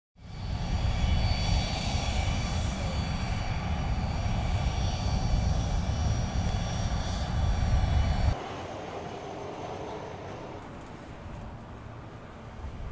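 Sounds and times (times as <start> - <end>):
jet engines idling: 0.2 - 12.9.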